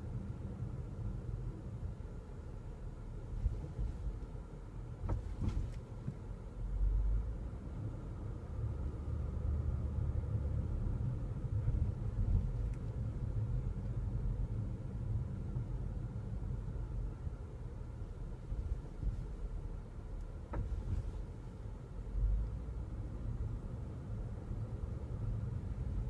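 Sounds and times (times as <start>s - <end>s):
road and suspension rumble: 0.0s - 26.0s.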